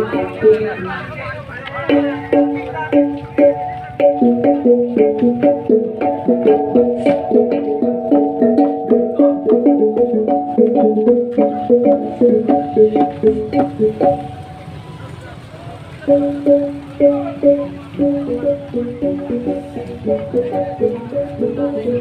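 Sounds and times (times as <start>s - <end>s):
drum beat: 0.0s - 14.6s, 16.0s - 22.0s.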